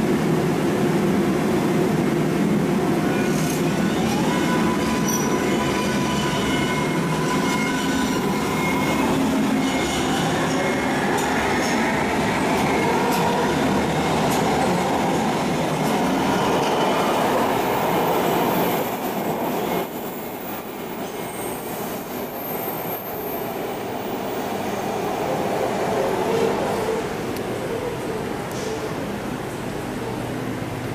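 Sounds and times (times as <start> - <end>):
underground train rumbling: 0.0 - 30.9.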